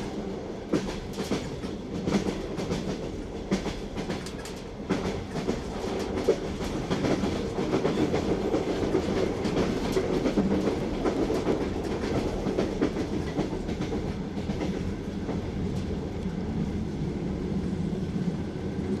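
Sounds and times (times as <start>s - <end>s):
train carriages rumbling: 0.0s - 19.0s
wheels clacking over rail joints: 0.7s - 15.9s.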